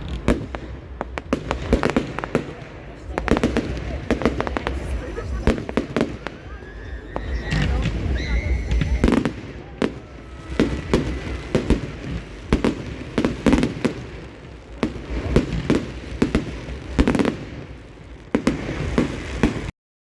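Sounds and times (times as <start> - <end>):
firework bangs: 0.0 - 19.7.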